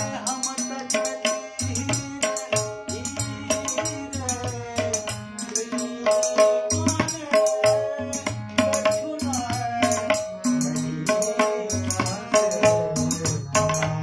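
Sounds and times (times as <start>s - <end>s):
harmonium held notes: 0.0s - 14.0s.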